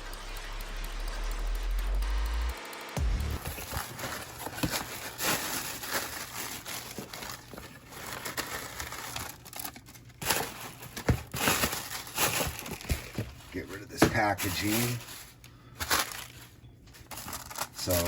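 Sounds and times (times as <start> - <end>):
packaging crinkling and tearing: 3.4 - 18.0.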